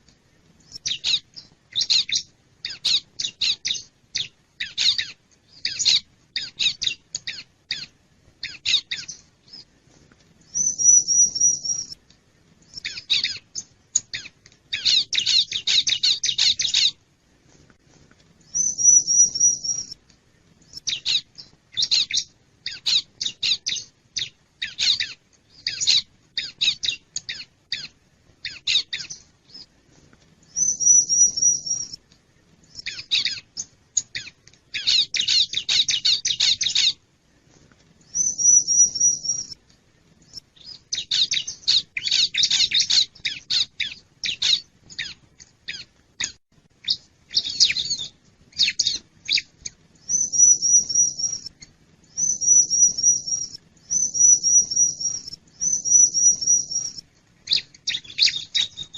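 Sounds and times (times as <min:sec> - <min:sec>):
bird chirping and trilling: 0:00.7 - 0:09.6, 0:10.5 - 0:12.0, 0:12.7 - 0:17.0, 0:18.5 - 0:20.0, 0:20.7 - 0:29.7, 0:30.5 - 0:32.0, 0:32.7 - 0:37.0, 0:38.1 - 0:39.6, 0:40.3 - 0:58.9.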